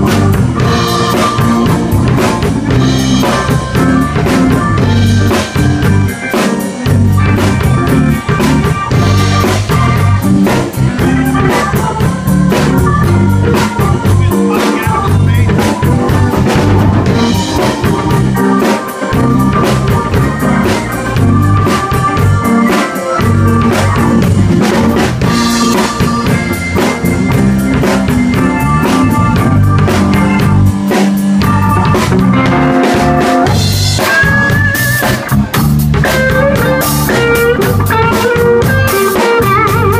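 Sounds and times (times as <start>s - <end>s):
drum kit beat: 0.0s - 39.9s
live blues band playing: 0.0s - 39.9s.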